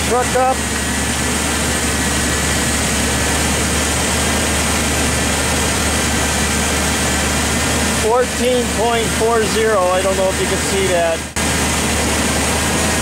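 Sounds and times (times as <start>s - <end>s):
pickup engine idling: 0.0s - 13.0s.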